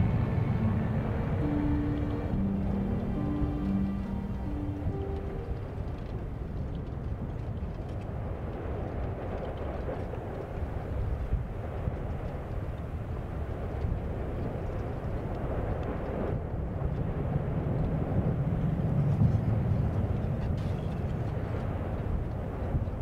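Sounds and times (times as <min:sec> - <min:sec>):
volcano rumbling roar: 0:00.0 - 0:23.0.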